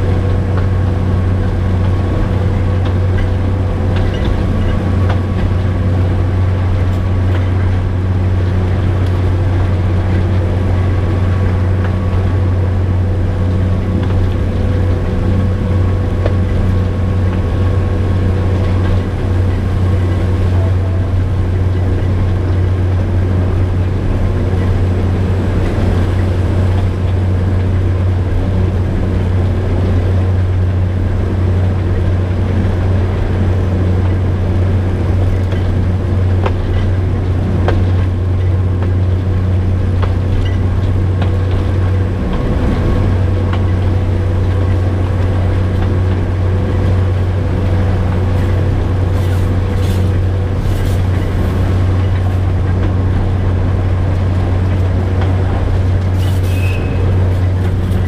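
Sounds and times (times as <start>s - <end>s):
diesel locomotive drone: 0.0s - 58.0s.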